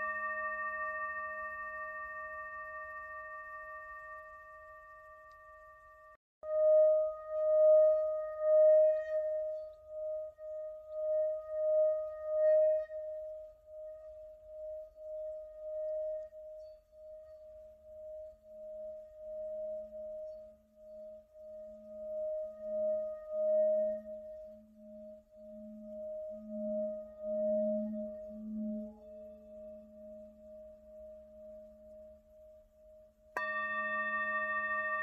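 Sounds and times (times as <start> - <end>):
singing bowl ringing tone: 0.0 - 35.0.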